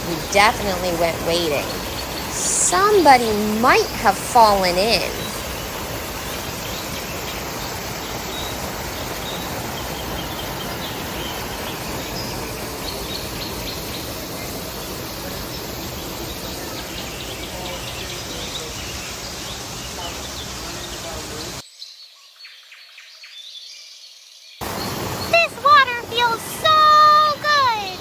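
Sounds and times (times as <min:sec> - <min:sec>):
creek and waterfall rushing: 0:00.0 - 0:21.6, 0:24.6 - 0:28.0
high chirps of birds and insects: 0:00.0 - 0:28.0.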